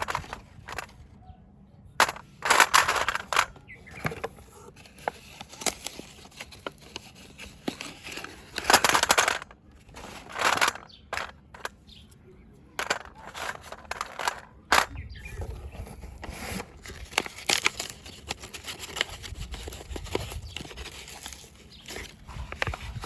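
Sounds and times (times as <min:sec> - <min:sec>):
rustling and crackling: 0:00.0 - 0:01.2, 0:02.0 - 0:23.0.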